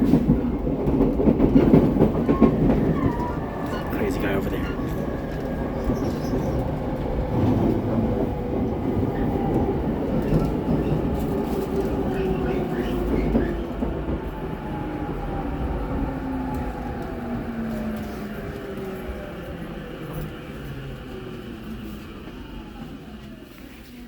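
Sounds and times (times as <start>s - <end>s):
train rumble and rail noise: 0.0s - 24.0s.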